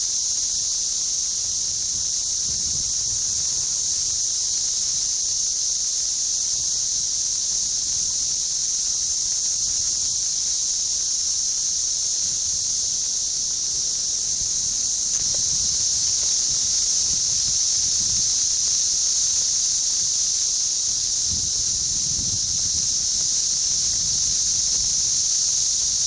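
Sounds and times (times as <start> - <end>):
cicadas buzzing drone: 0.0 - 26.0.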